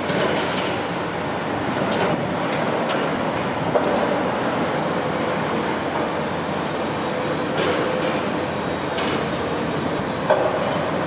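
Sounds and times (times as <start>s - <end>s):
heavy construction machinery running: 0.0s - 11.0s.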